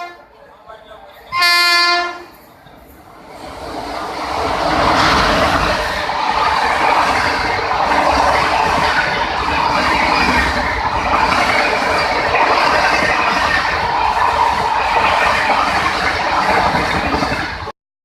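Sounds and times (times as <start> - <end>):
train wheels rumbling on rails: 0.0 - 17.7.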